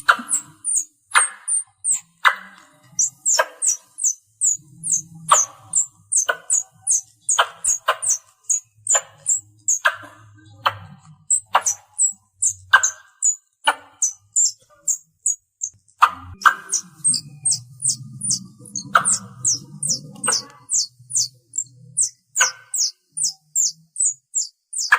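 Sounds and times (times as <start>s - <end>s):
squirrel chirping: 0.0s - 24.9s
squirrel clicking chucks: 0.0s - 24.9s.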